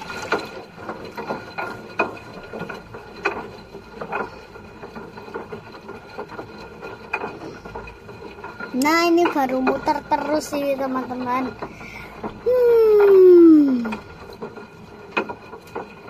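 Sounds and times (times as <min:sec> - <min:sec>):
water sloshing in washing machine: 0:00.0 - 0:16.0.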